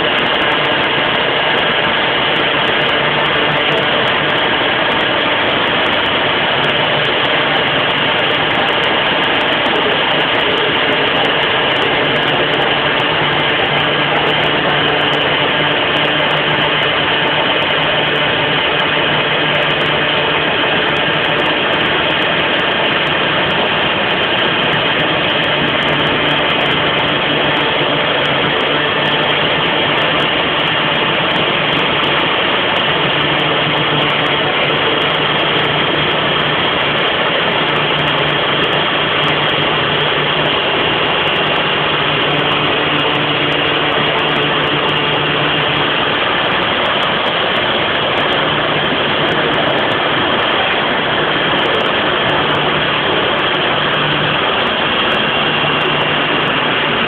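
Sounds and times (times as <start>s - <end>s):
low hum: 0.0s - 57.0s
router spindle whirring: 0.0s - 57.0s.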